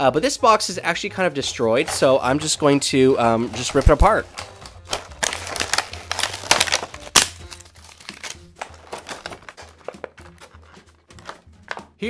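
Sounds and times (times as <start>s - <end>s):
plastic and cardboard crackling: 1.5s - 12.0s.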